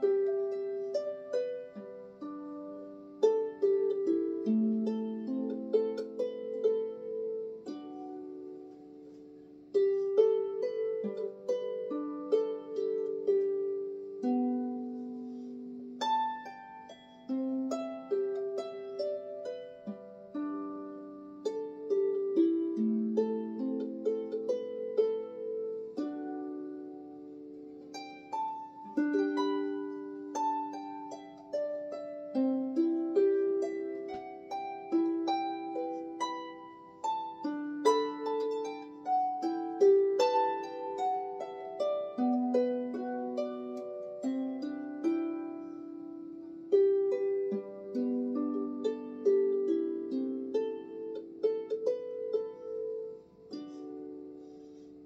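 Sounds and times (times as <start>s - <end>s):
harp melody plucked: 0.0s - 55.0s.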